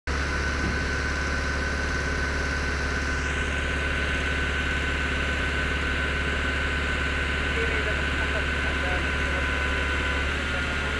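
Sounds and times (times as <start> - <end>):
machine mechanical drone: 0.1 - 10.9
steady high whine: 0.1 - 10.9.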